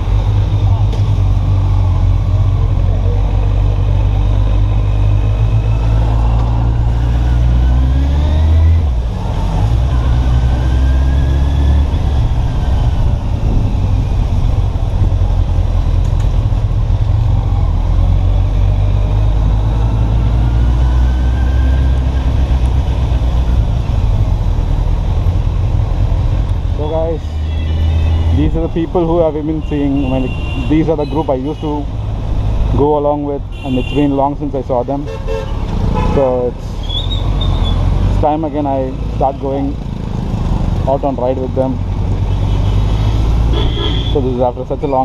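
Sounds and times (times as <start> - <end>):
motorcycle engine rumbling: 0.0 - 45.0.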